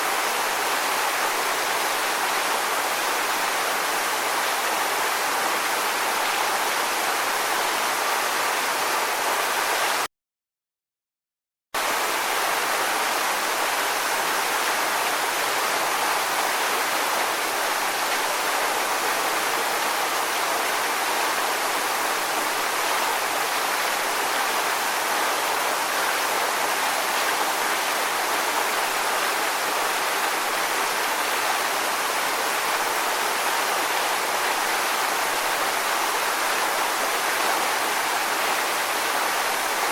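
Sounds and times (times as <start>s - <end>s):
rushing water: 0.0s - 10.1s, 11.8s - 39.9s.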